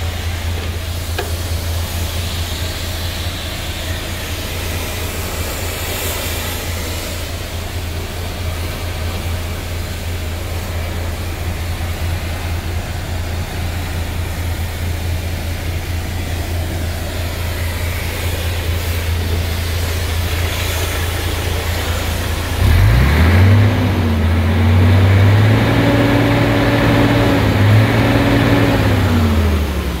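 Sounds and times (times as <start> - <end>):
diesel truck engine idling and revving: 0.0 - 30.0.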